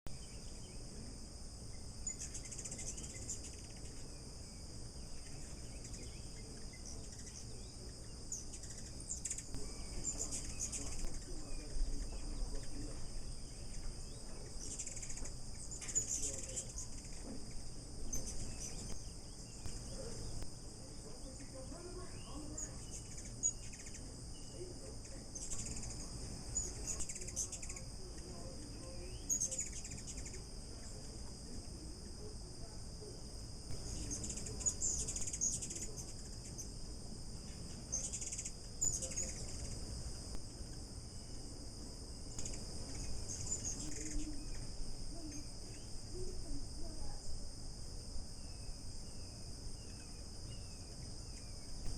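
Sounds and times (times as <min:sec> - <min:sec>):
high-pitched insect chorus: 0:00.1 - 0:51.9.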